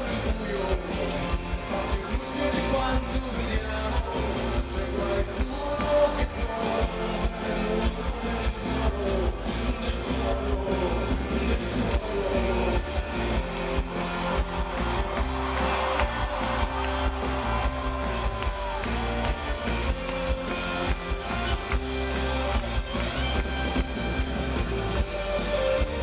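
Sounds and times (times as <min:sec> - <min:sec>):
bass: 0:00.0 - 0:26.0
guitars: 0:00.0 - 0:26.0
steady drum beat: 0:00.0 - 0:26.0.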